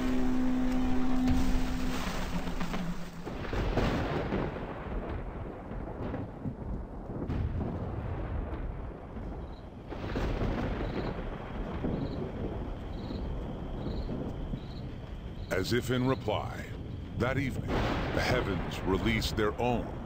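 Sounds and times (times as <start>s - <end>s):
thunder rumbling: 0.0s - 20.0s.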